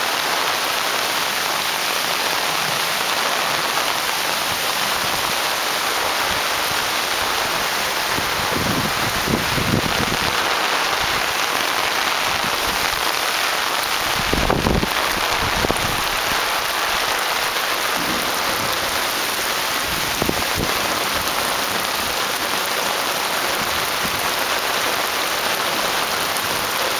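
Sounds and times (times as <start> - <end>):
heavy rain on grass and concrete: 0.0 - 26.9.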